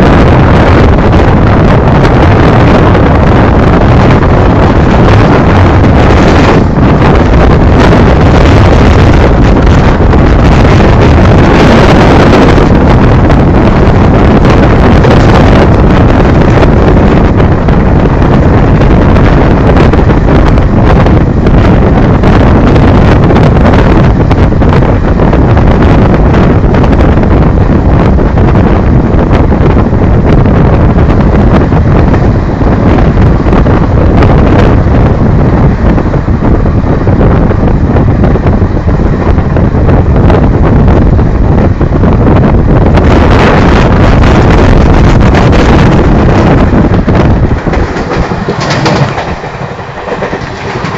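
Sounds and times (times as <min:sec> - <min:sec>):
train rumbling on rails: 0:00.0 - 0:50.9
wind blasting microphone: 0:00.0 - 0:50.9.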